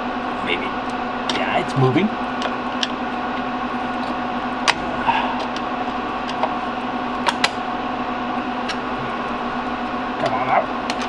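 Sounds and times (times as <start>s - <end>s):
rack equipment hum: 0.0s - 11.0s.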